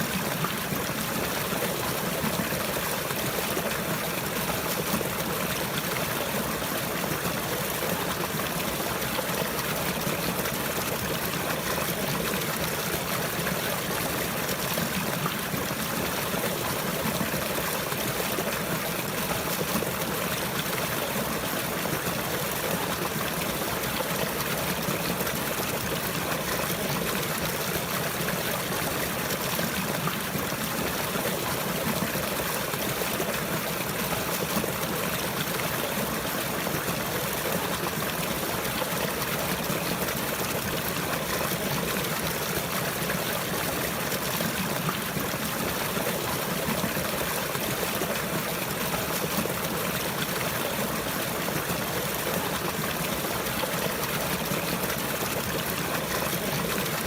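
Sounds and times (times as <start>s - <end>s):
stream trickling and flowing: 0.0s - 57.0s.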